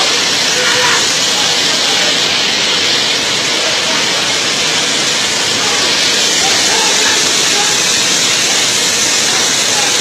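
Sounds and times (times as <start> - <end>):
rushing water hiss: 0.0 - 10.0.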